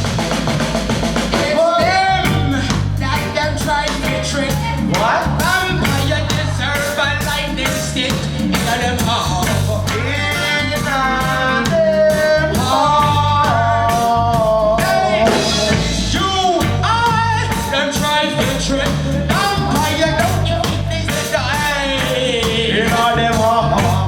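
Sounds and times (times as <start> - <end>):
heavy bass: 0.0 - 24.0
reggae band playing: 0.0 - 24.0
steady drum beat: 0.0 - 24.0.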